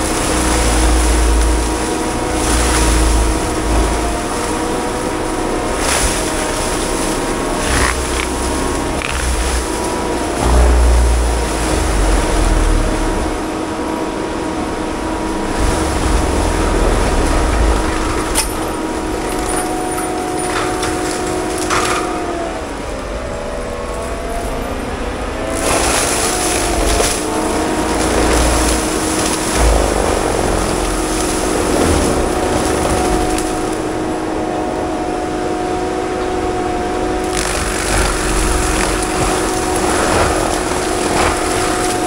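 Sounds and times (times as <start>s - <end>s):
diesel engine under load: 0.0s - 42.0s
hydraulic whine: 0.0s - 42.0s.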